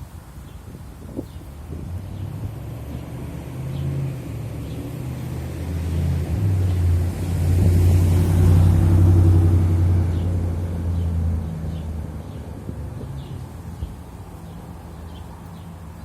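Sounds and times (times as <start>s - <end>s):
vehicle engine passing by: 1.8s - 16.0s.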